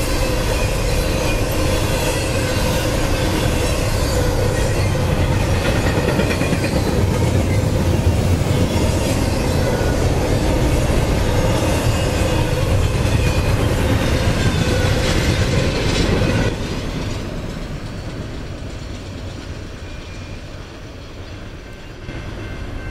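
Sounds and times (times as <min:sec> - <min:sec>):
freight train wheels rumbling: 0:00.0 - 0:22.9.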